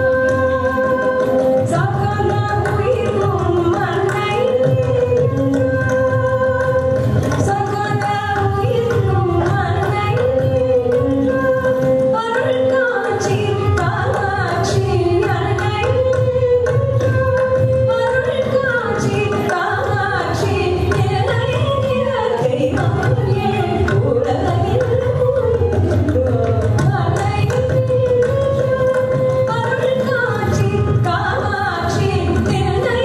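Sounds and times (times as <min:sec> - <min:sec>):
tanpura drone: 0:00.0 - 0:33.0
woman singing: 0:00.0 - 0:33.0.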